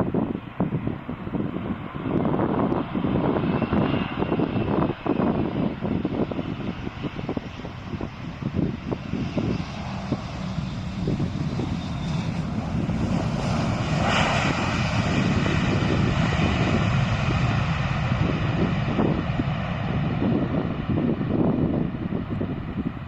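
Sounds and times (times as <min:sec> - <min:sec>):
jet engines rumbling: 0:00.0 - 0:23.0
wind buffeting microphone: 0:00.0 - 0:23.0.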